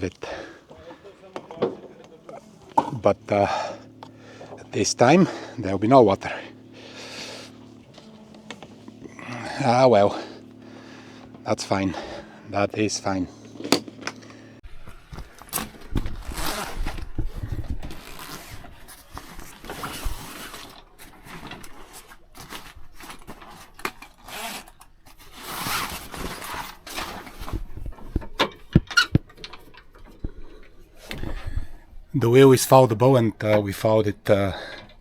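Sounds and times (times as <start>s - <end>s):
rustling and scraping of gear: 0.0s - 31.9s.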